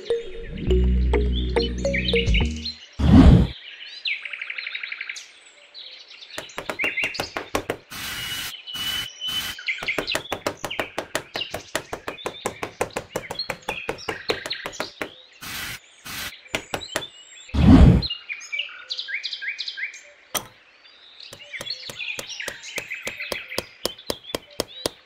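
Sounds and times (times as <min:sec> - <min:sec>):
birds chirping: 0:00.0 - 0:03.6, 0:06.2 - 0:18.1, 0:20.3 - 0:25.0.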